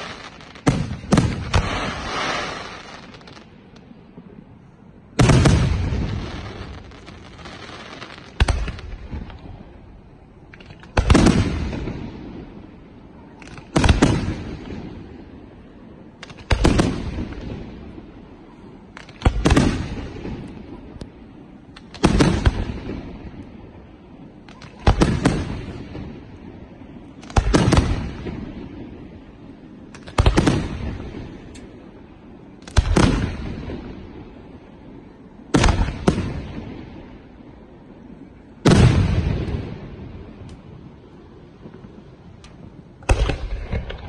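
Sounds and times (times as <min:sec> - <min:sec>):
fireworks bursting with echo: 0:00.0 - 0:44.0.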